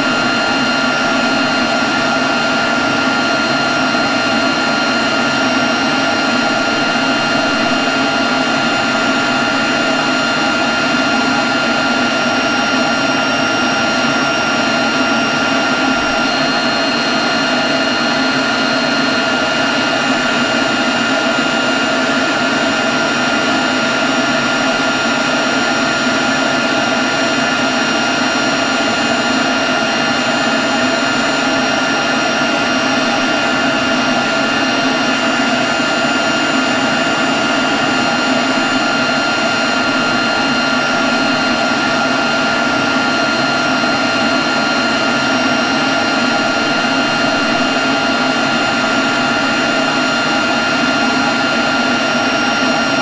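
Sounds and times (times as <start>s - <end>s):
leaf blower running: 0.0s - 53.0s.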